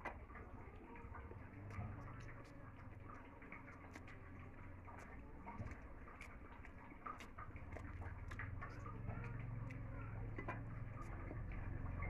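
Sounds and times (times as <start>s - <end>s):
low steady hum: 0.0s - 12.0s
mouth chewing: 1.7s - 12.0s.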